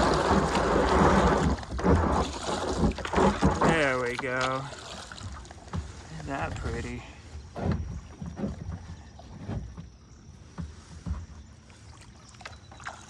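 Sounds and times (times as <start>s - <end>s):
paddle knocks and splashes: 0.0s - 13.0s
water washing: 0.0s - 13.0s.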